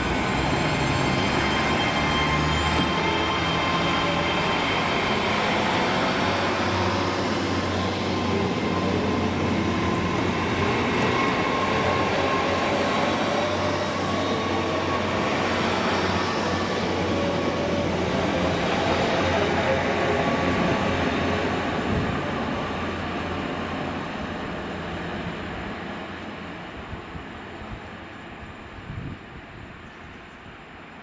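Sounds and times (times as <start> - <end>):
train running past: 0.0 - 28.9.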